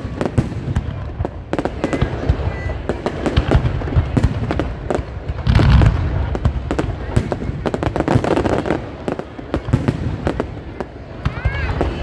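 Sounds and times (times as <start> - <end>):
fireworks crackling and popping: 0.0 - 12.0
low rumble of firework bursts: 0.0 - 12.0.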